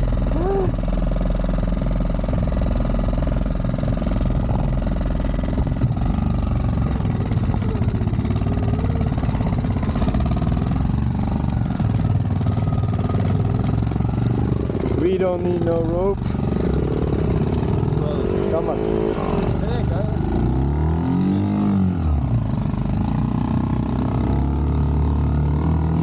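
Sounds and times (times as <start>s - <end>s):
minibike engine running: 0.0s - 26.0s.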